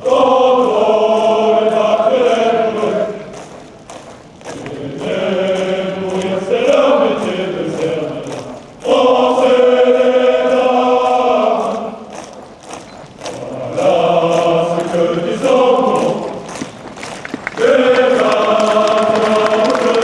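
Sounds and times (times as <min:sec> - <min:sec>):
men singing marching song in unison: 0:00.0 - 0:20.0
tramp of marching feet: 0:00.0 - 0:20.0.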